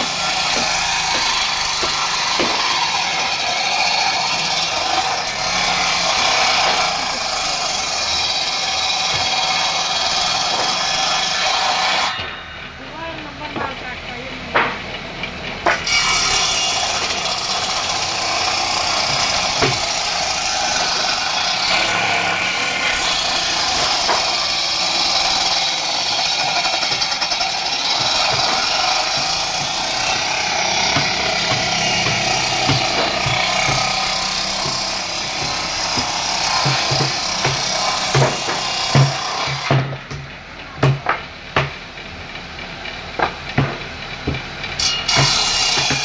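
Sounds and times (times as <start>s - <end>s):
circular saw cutting wood: 0.0s - 14.8s, 15.6s - 40.2s, 43.1s - 46.0s.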